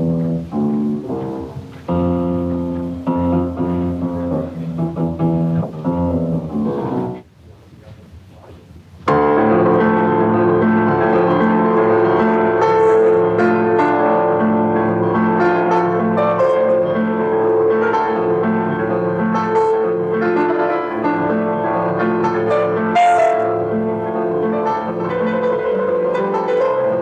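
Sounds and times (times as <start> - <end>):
piano music: 0.0 - 7.2, 9.1 - 27.0.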